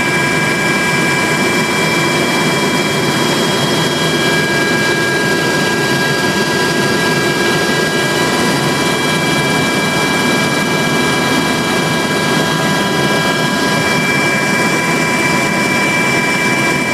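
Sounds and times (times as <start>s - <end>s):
helicopter cabin drone: 0.0s - 16.9s
high whining tones: 0.0s - 16.9s.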